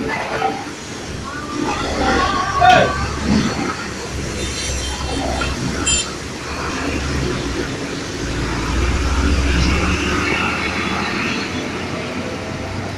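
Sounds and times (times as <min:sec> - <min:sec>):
heavy traffic engine drone: 0:00.0 - 0:12.9.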